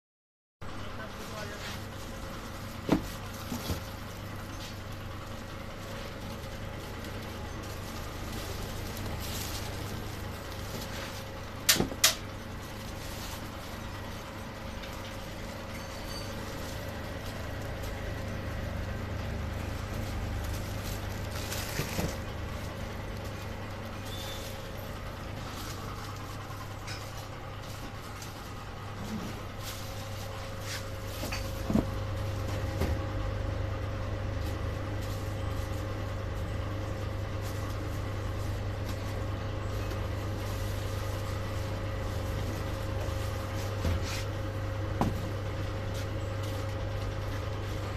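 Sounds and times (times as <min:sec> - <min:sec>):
faint machine whine: 0:00.6 - 0:47.9
packaging machine humming: 0:00.7 - 0:47.9.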